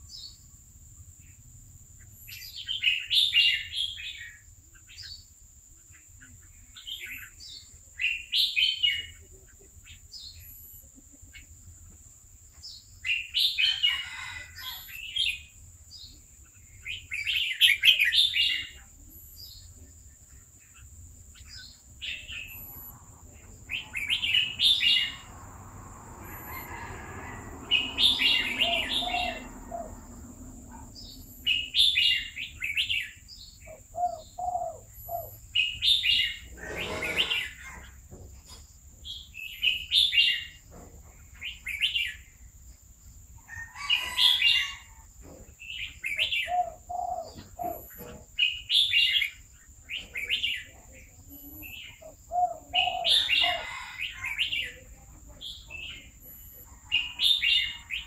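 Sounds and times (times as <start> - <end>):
bird singing warbled phrases: 0.0 - 12.0, 12.7 - 25.5, 27.6 - 38.0, 39.0 - 40.6, 41.2 - 42.5, 45.6 - 58.0.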